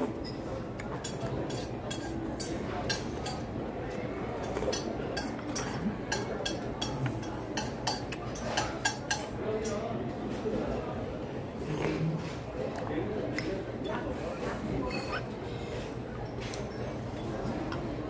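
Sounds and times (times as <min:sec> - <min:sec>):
background murmur: 0:00.0 - 0:18.0.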